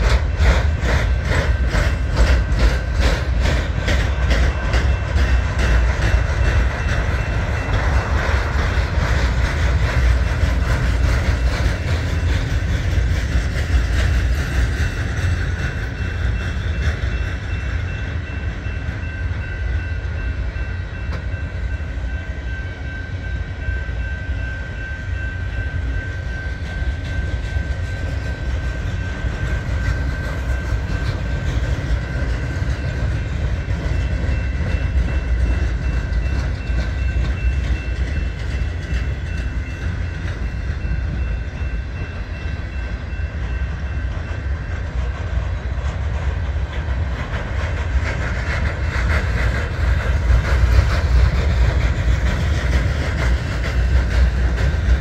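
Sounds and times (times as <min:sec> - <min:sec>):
railcars rumbling past: 0:00.0 - 0:55.0.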